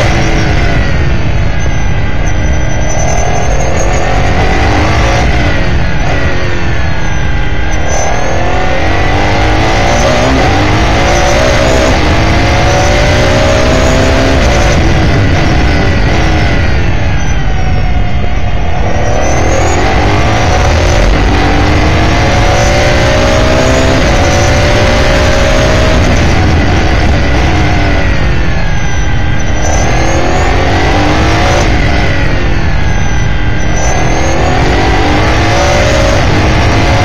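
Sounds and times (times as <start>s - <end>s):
heavy wind noise: 0.0s - 37.0s
race car engine accelerating: 0.0s - 37.0s.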